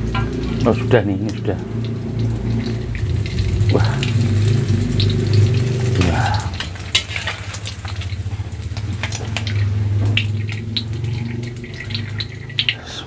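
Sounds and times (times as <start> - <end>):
hot oil crackling and sizzling: 0.0 - 13.0
oil dripping into pan: 0.0 - 13.0
steady low hum: 0.0 - 13.0.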